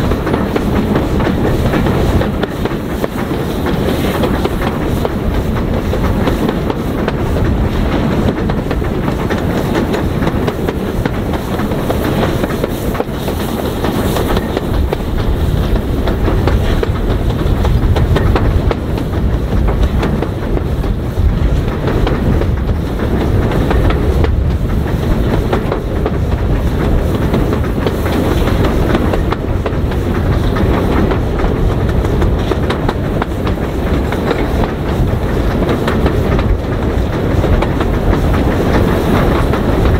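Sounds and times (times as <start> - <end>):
train rumbling: 0.0 - 39.9
train wheels clickety-clack: 0.0 - 39.9.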